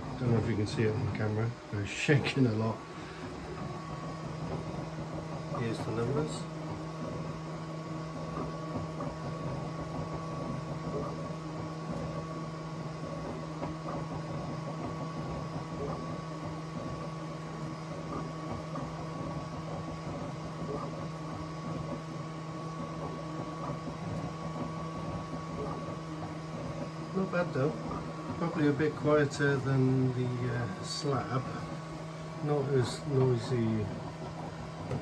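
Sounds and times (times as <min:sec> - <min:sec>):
printer fans humming: 0:00.0 - 0:35.0
printer motors whirring: 0:00.0 - 0:35.0.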